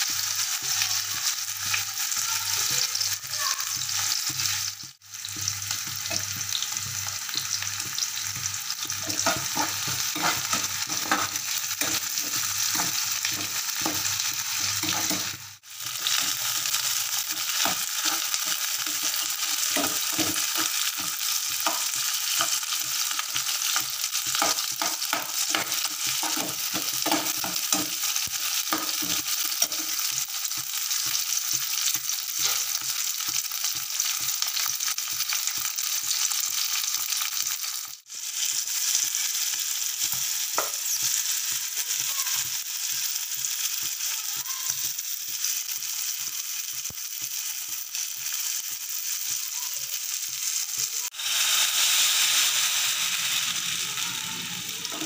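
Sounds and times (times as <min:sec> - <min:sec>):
vegetables sizzling in hot oil: 0:00.0 - 0:55.0.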